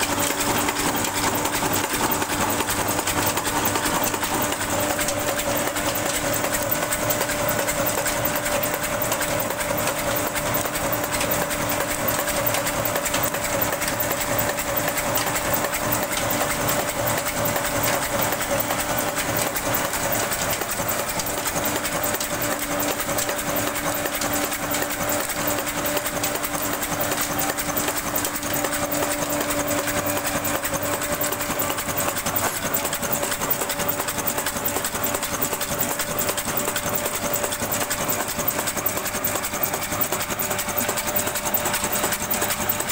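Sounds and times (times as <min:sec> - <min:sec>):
diesel engine clattering: 0:00.0 - 0:42.9.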